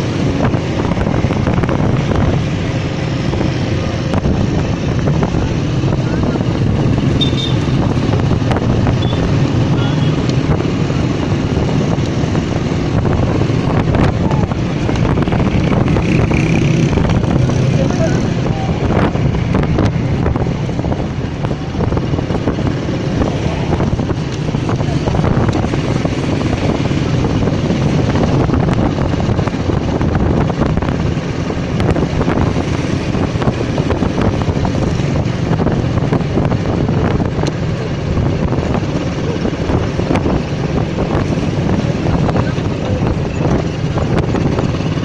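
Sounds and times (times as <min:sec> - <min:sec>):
motorcycle engine: 0:00.0 - 0:45.0
road noise: 0:00.0 - 0:45.0
wind buffeting microphone: 0:00.0 - 0:45.0.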